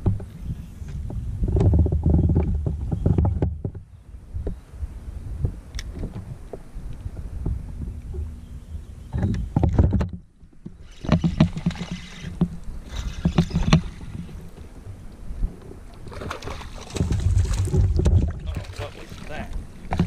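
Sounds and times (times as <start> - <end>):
knocks and bumps against kayak: 0.0 - 4.6, 5.4 - 8.4, 9.1 - 15.0, 15.6 - 20.0.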